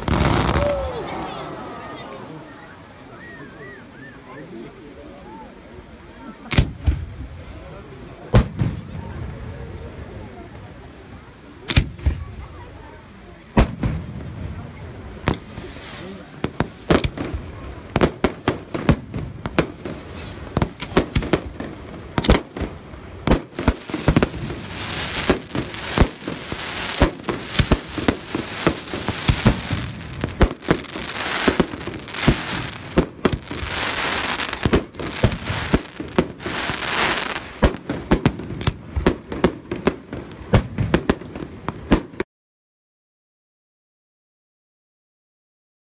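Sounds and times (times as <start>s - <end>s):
hissing crackle of fireworks: 0.0s - 4.3s, 5.3s - 42.2s.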